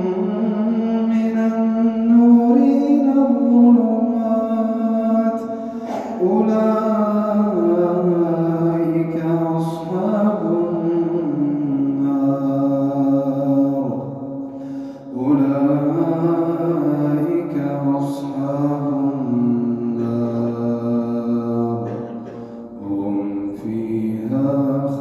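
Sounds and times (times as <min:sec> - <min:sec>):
man chanting melodically: 0:00.0 - 0:14.3, 0:15.0 - 0:25.0.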